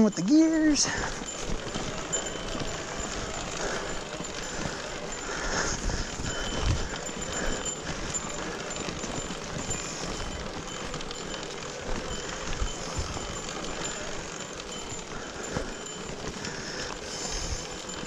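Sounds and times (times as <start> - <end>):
bike knocking and rattling: 0.0 - 18.0
bike tyres on rough trail: 0.0 - 18.0.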